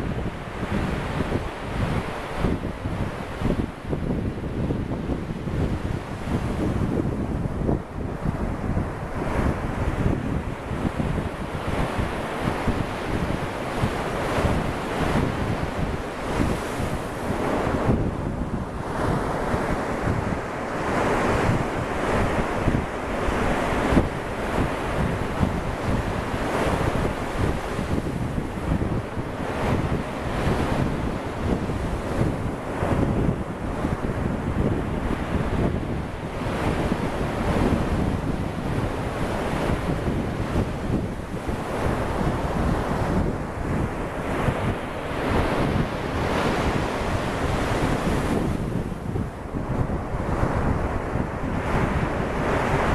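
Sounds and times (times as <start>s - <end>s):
surf washing onto beach: 0.0s - 52.9s
wind buffeting microphone: 0.0s - 52.9s.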